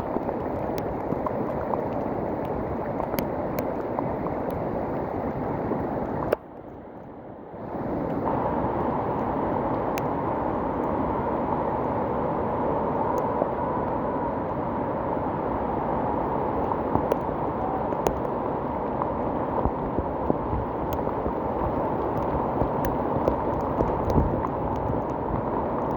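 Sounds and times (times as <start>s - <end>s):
river rushing: 0.0s - 6.4s, 7.5s - 25.9s.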